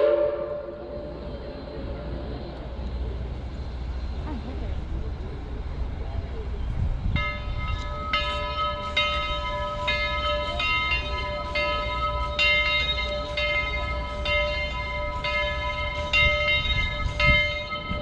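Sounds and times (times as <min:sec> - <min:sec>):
steam locomotive bell ringing: 0:00.0 - 0:03.4, 0:06.8 - 0:18.0.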